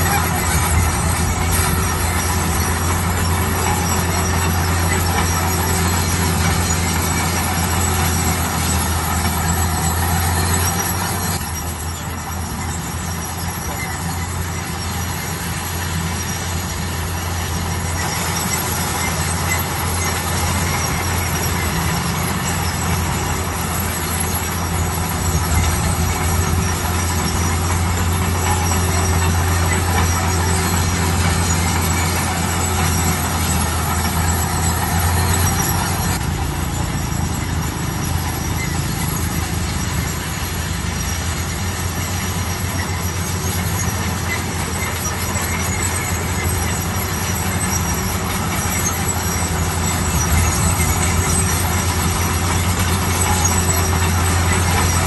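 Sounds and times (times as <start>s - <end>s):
bulldozer diesel engine under load: 0.0s - 55.0s
tracks squealing: 0.0s - 55.0s.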